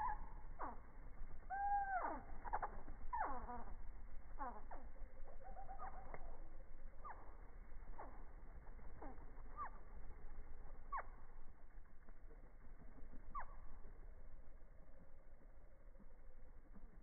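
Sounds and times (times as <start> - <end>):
low steady hum: 0.0 - 17.0
slowed-down hummingbird chirps: 0.0 - 17.0.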